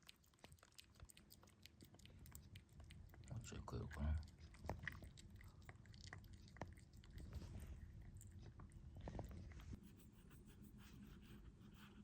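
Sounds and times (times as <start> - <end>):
cat chewing food: 0.0 - 9.8.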